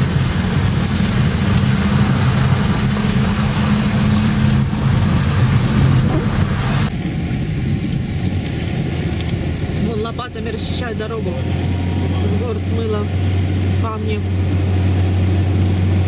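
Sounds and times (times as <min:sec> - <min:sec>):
car engine hum: 0:00.0 - 0:16.0
rain and tyres on wet road: 0:00.0 - 0:16.0.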